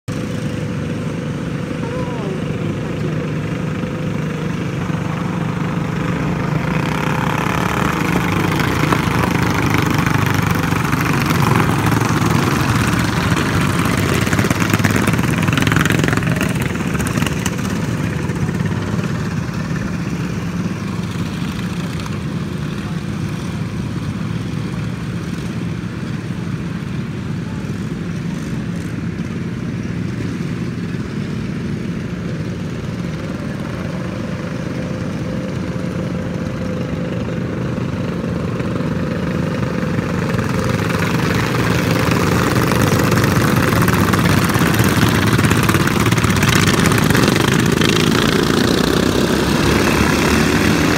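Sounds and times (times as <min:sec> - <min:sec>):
lawn mower engines racing: 0:00.1 - 0:50.9.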